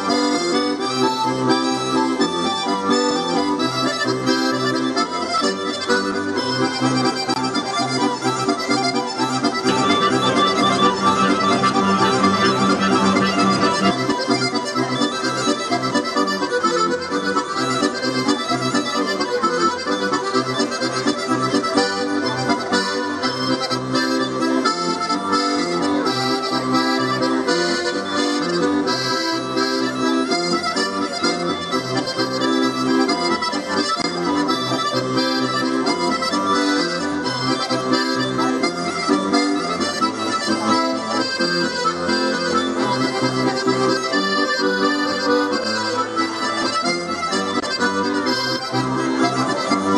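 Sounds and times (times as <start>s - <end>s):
accordion playing a tune: 0.0s - 49.9s.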